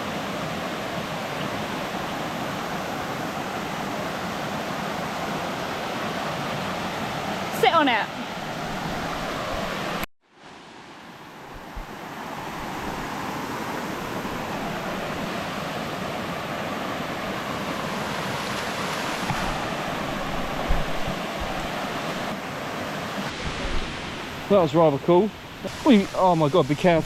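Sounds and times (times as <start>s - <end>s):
waterfall rushing: 0.0s - 10.8s, 11.5s - 27.0s.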